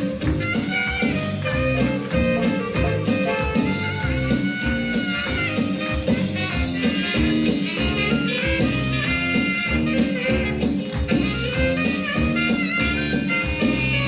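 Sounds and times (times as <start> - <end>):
bass line: 0.0 - 14.0
dance music with steady beat: 0.0 - 14.0
horn-like melody: 0.0 - 14.0.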